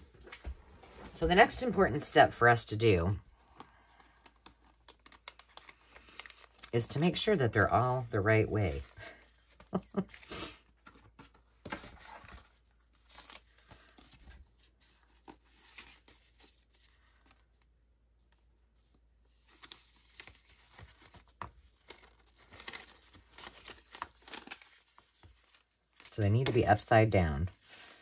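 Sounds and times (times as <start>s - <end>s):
paper rustling and crinkling: 3.2s - 26.7s.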